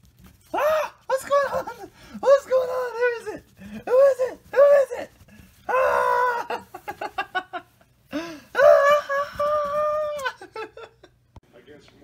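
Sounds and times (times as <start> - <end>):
fabric rustling and scratching: 0.0 - 10.6.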